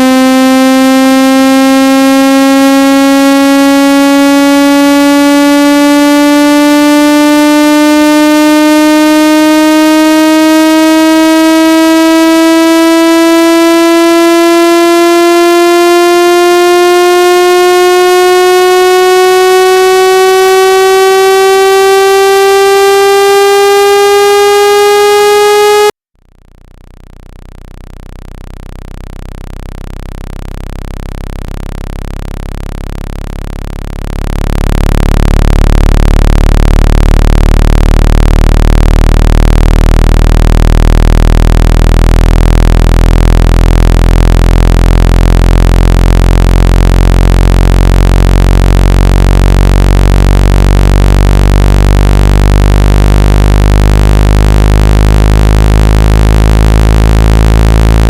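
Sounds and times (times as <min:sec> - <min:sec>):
buzzy rising synthesized tone: 0:00.0 - 0:26.0, 0:29.0 - 0:58.0
low hum: 0:00.0 - 0:58.0.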